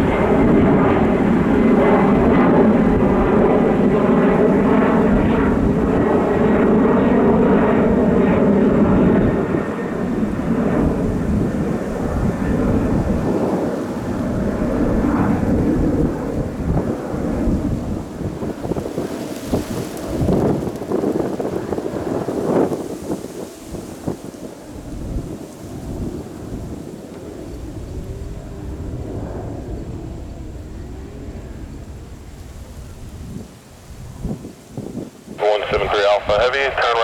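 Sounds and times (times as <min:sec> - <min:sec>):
jet airliner engines roaring: 0:00.0 - 0:37.0.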